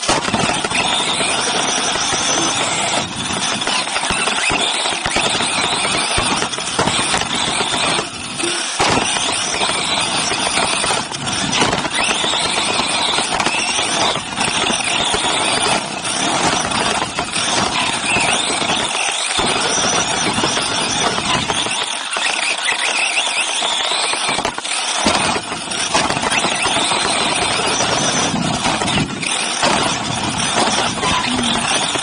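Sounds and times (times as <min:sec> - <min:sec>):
electric motor whine: 0:00.0 - 0:32.0
tyres rushing on dirt: 0:00.0 - 0:32.0.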